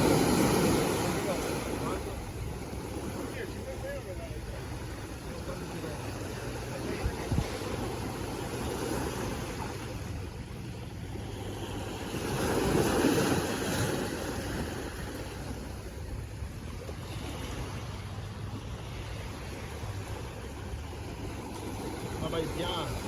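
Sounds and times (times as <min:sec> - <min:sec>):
sea waves washing in: 0:00.0 - 0:23.0.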